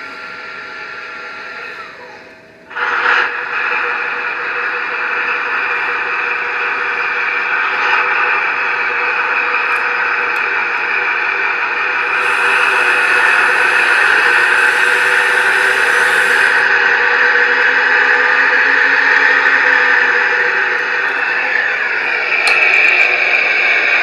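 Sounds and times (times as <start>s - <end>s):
simulated diesel engine from speaker: 0.0s - 24.0s.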